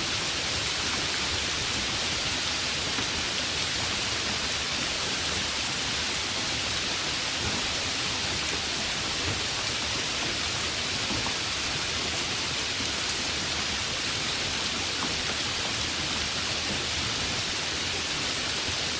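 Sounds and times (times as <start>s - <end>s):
heavy rain hissing: 0.0s - 18.9s
faint raindrop ticks: 0.1s - 18.9s.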